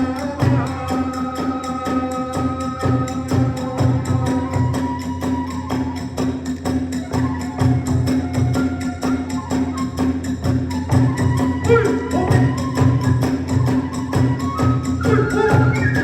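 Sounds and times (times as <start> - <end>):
bamboo flute melody: 0.0 - 16.0
small hand cymbals clashing: 0.0 - 16.0.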